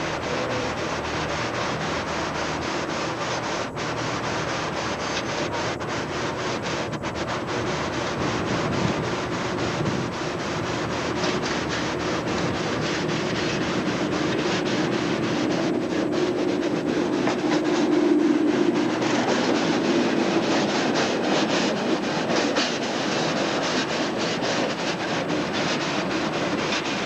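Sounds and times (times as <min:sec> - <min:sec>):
train humming past: 0:00.0 - 0:27.0
wind noise on microphone: 0:00.0 - 0:27.0.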